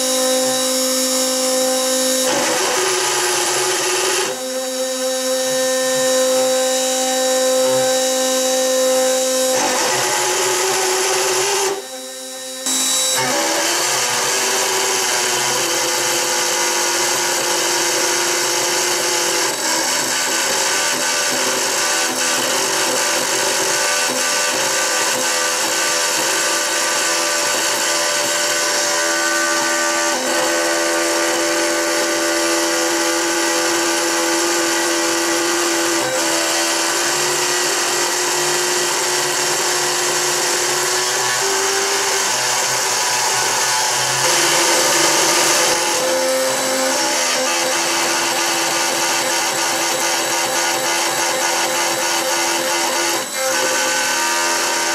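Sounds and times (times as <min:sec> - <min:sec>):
router milling metal: 0:00.0 - 0:54.9.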